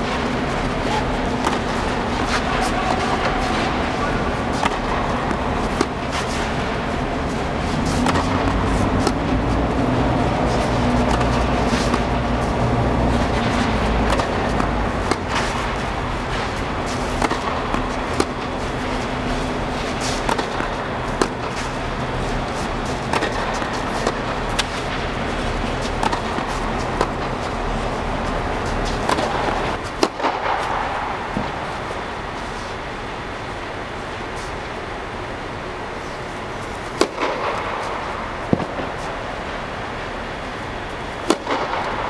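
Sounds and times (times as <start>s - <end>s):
blowers humming: 0.0s - 42.0s
tennis balls struck and bouncing: 0.1s - 31.6s, 36.8s - 39.5s, 41.1s - 42.0s.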